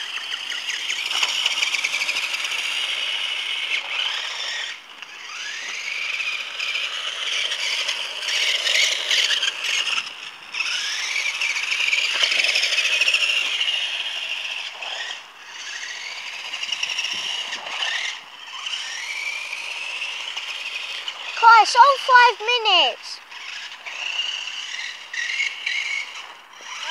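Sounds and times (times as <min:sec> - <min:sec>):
electric toy car motor whining: 0:00.0 - 0:26.9.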